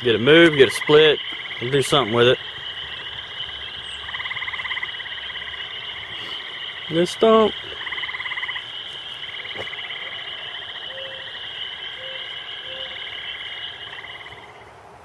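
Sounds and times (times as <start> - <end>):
frogs trilling: 0.0 - 14.7.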